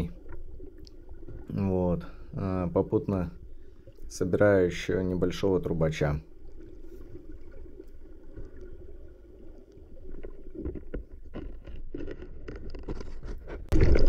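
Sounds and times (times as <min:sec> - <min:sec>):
underwater rumble of sea water: 0:00.0 - 0:11.3.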